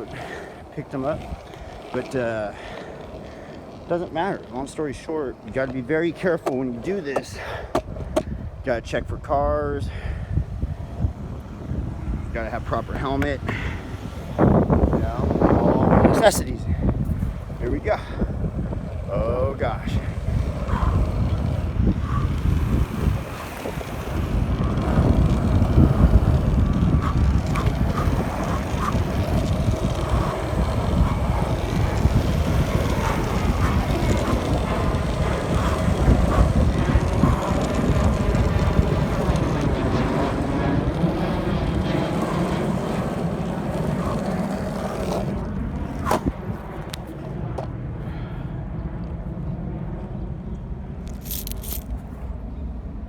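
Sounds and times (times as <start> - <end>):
skate wheels rolling on asphalt: 0.0 - 53.0
wind rushing over microphone: 0.0 - 53.0.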